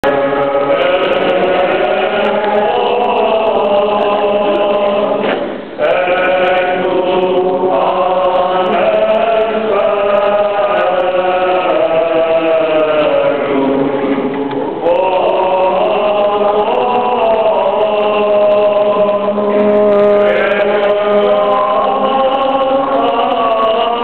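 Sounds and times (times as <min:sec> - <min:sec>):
choir chanting: 0:00.0 - 0:24.0.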